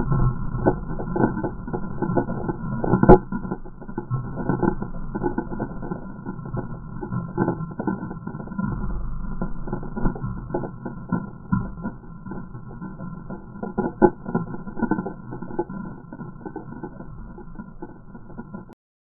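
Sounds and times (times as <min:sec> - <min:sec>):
debris and embers crackling: 0:00.0 - 0:18.8
low rumble: 0:00.0 - 0:18.8.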